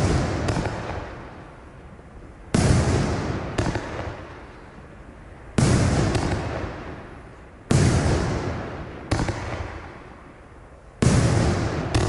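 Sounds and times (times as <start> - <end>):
fireworks bangs: 0.0 - 1.7, 2.5 - 12.0.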